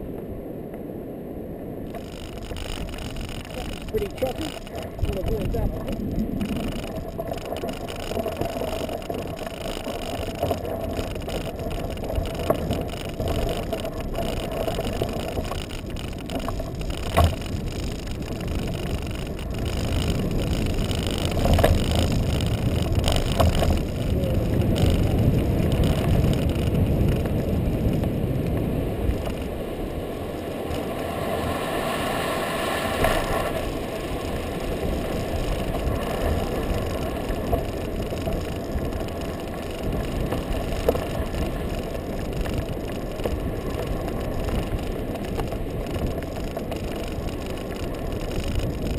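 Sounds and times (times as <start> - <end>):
buggy tyres rumbling on sand: 1.8 - 48.9.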